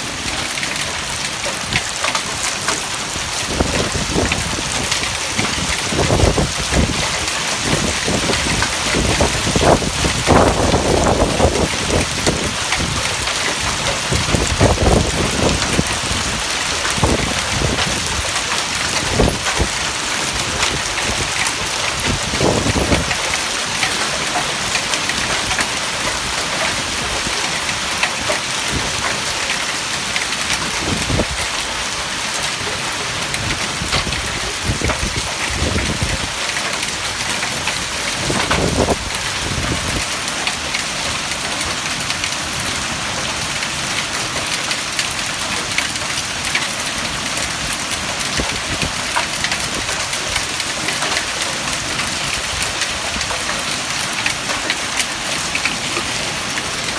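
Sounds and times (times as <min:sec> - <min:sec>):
hailstones ticking: 0:00.0 - 0:56.9
heavy rain and hail: 0:00.0 - 0:56.9.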